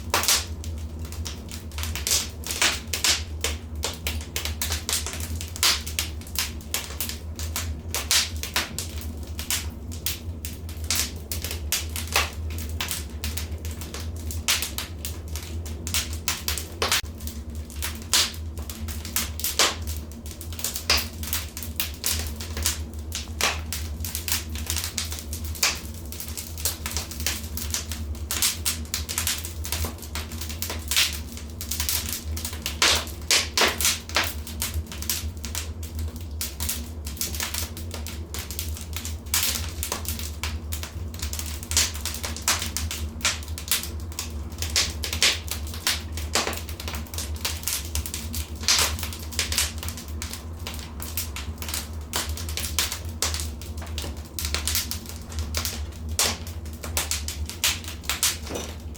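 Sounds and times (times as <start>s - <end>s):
fire pops and snaps: 0.0s - 58.9s
low rumble of flames: 0.0s - 58.9s.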